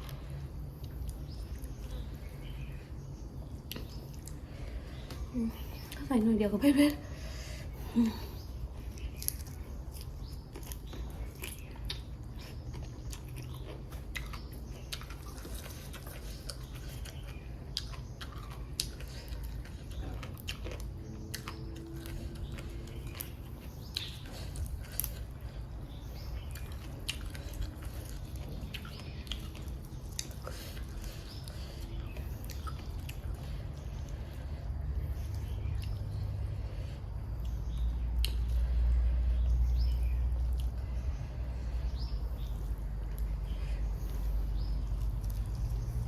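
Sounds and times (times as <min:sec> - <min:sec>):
person chewing shellfish: 0:00.0 - 0:06.1, 0:07.0 - 0:46.0
steady low hum: 0:00.0 - 0:46.0.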